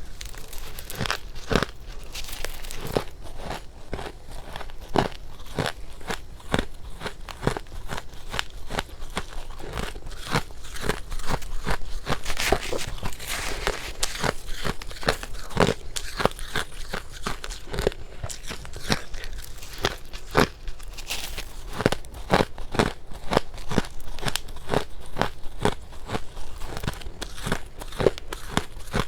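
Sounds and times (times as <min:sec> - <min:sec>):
chewing crunchy ice: 0:00.0 - 0:29.0.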